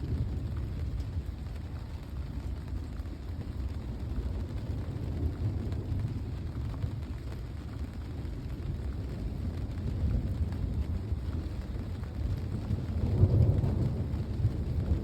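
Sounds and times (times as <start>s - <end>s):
low thunder rumble: 0.0s - 15.0s.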